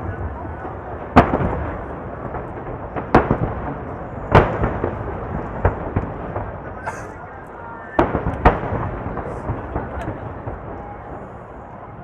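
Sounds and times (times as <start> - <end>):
loud firework booms: 0.0 - 7.1, 8.0 - 11.6
smaller firework bangs: 0.0 - 7.2, 8.0 - 11.6
rumble of distant firework bursts: 0.0 - 12.0.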